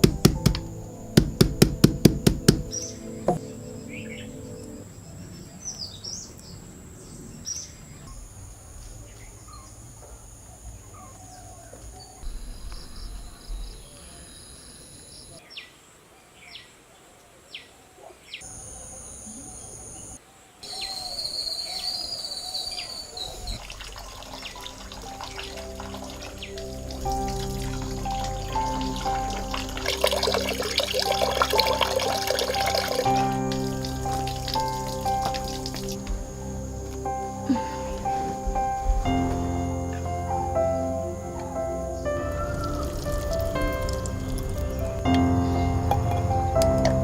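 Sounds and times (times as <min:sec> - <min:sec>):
background noise: 0:00.0 - 0:47.0.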